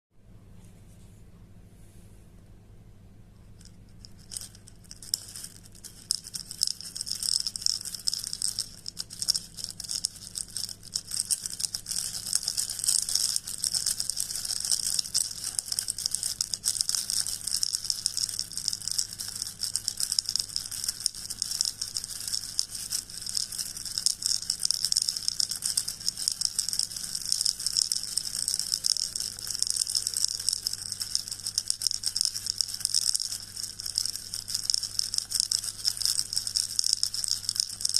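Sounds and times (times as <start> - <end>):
high-pitched crackling rustle: 3.5 - 37.9.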